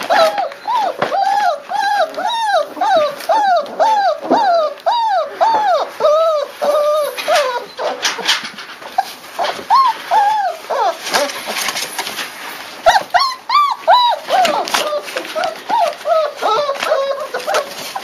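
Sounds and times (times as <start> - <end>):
puppies whining: 0.0 - 18.0.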